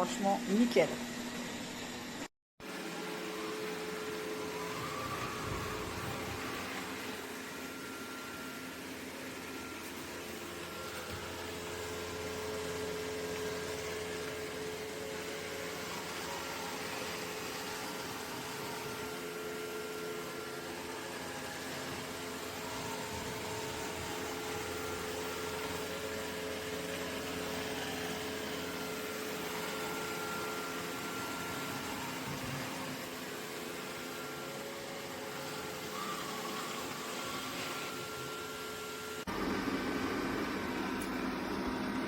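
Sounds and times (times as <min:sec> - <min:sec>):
robot vacuum motor hum: 0:02.6 - 0:42.0.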